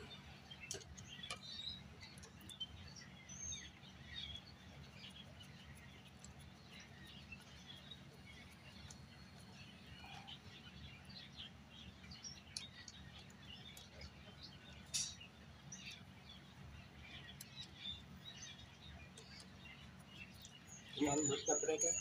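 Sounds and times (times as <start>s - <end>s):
faint birds chirping: 0.0s - 22.0s
low steady hum: 0.0s - 22.0s.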